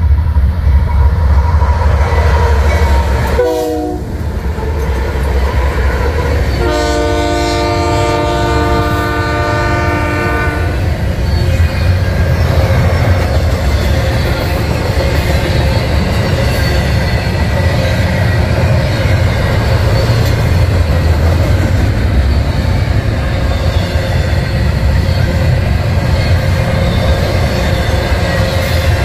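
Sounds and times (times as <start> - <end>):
freight train rolling past: 0.0 - 29.0
steel wheels rattling on rails: 0.0 - 29.0.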